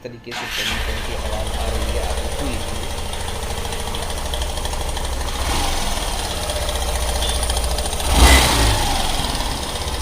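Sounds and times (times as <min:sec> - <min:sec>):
motorcycle engine running: 0:00.4 - 0:10.0.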